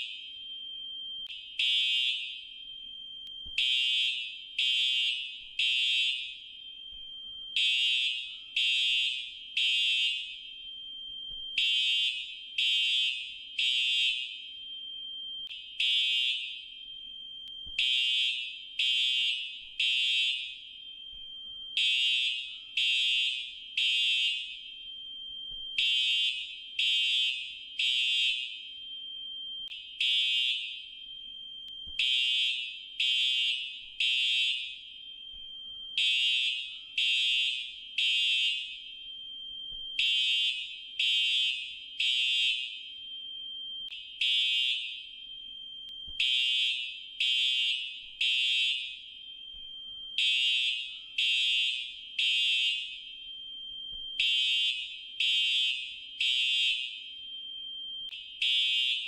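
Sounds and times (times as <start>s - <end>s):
fire alarm beeping: 0.0s - 59.0s.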